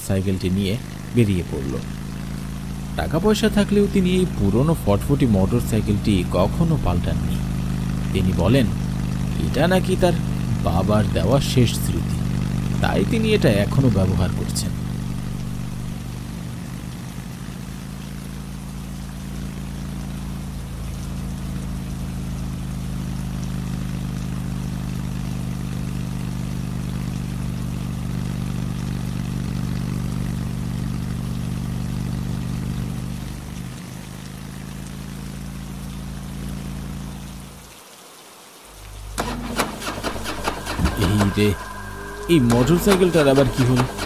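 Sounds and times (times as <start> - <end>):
rain falling: 0.0 - 44.0
motorcycle engine running: 0.2 - 37.6, 38.9 - 44.0.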